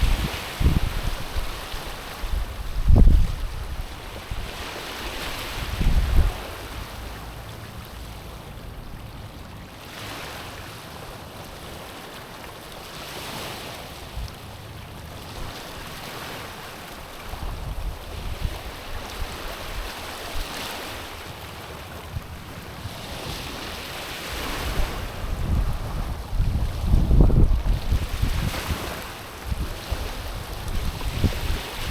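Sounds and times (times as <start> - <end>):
waves washing onto stony shore: 0.0 - 31.9.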